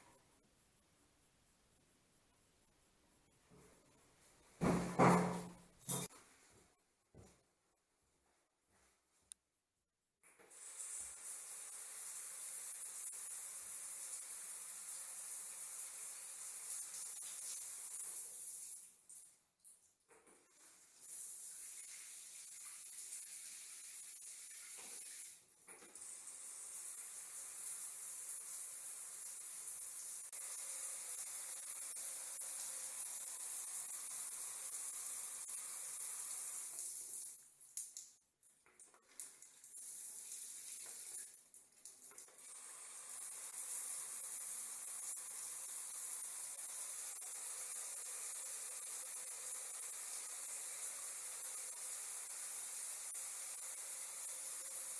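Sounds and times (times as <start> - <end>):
water running: 3.5 - 6.4, 10.3 - 54.9.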